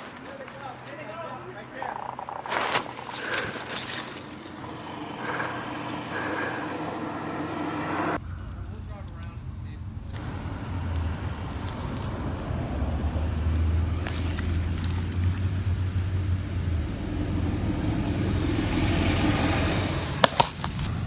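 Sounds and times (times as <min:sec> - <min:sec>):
vehicle engine low rumble: 0:01.6 - 0:21.0.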